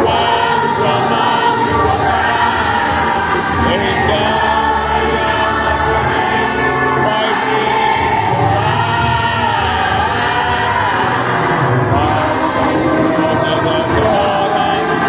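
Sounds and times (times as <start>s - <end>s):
choir singing a hymn: 0.0s - 15.0s
musical accompaniment with bass: 0.0s - 15.0s.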